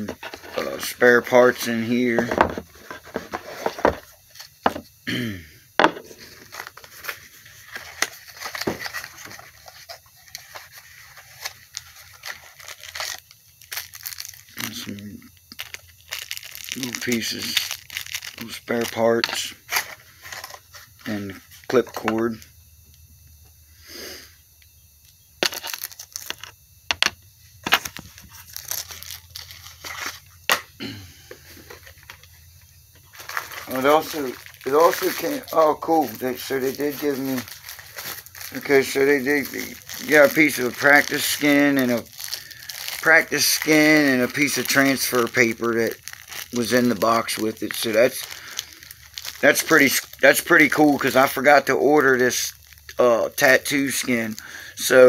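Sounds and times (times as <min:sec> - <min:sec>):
packaging crinkling: 0:05.8 - 0:22.4, 0:25.4 - 0:26.6, 0:27.6 - 0:32.4, 0:33.0 - 0:55.0.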